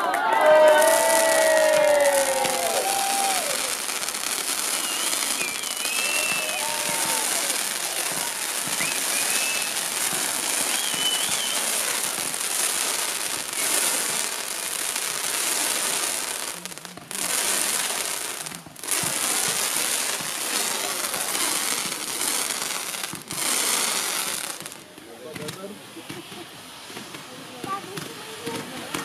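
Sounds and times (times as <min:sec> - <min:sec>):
fireworks hissing and crackling: 0:00.0 - 0:29.0.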